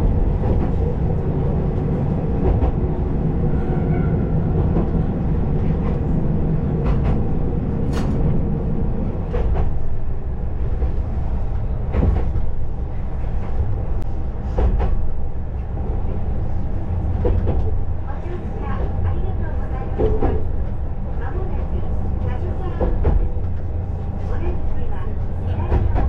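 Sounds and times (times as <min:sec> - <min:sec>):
railcar engine and wheels rumbling: 0:00.0 - 0:26.0.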